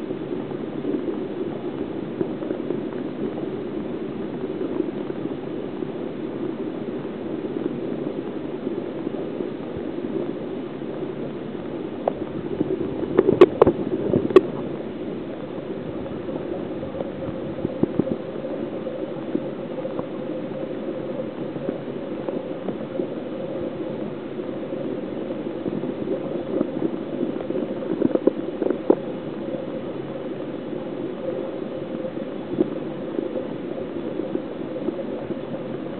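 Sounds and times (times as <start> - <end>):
water gurgling in tank: 0.0 - 35.9.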